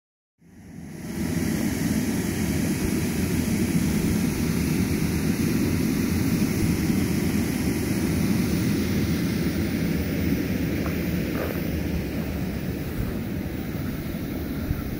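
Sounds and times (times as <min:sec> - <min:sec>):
blower fan droning: 0:00.4 - 0:14.9.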